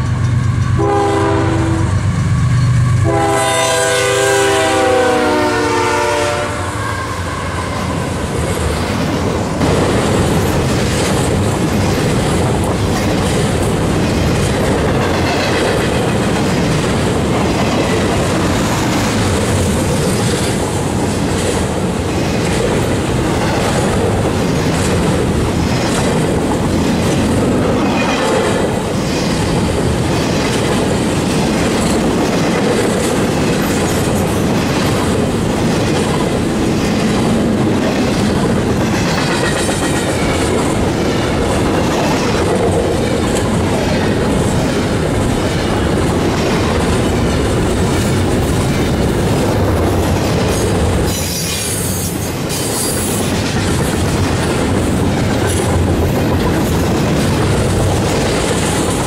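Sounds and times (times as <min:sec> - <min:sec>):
freight train rumbling past: 0:00.0 - 0:59.0
wheels clacking over rail joints: 0:08.2 - 0:59.0.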